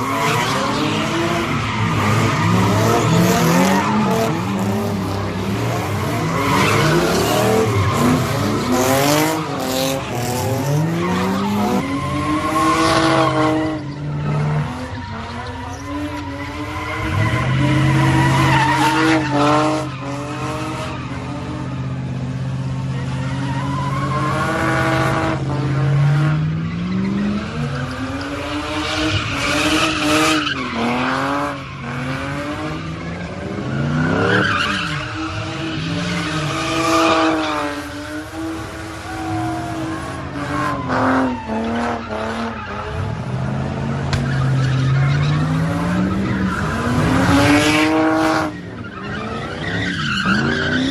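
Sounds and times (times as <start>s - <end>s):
car engines revving hard: 0.0s - 50.9s
tires screeching: 0.0s - 50.9s.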